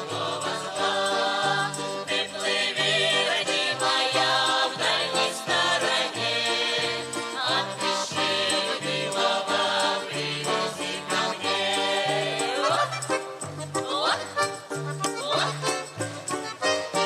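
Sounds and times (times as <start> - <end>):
folk ensemble playing: 0.0 - 17.0.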